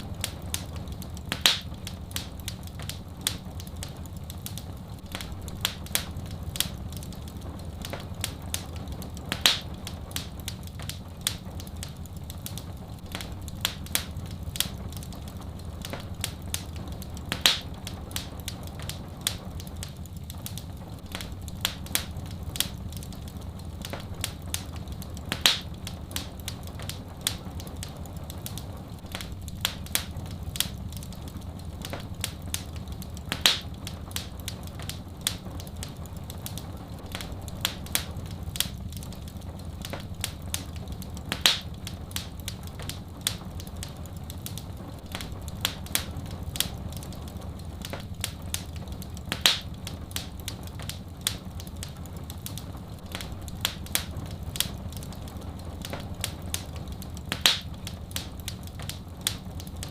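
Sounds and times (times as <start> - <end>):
fire low rumble: 0.0 - 59.9
loud snap from fire: 0.0 - 59.9
wood fire popping: 0.0 - 59.9.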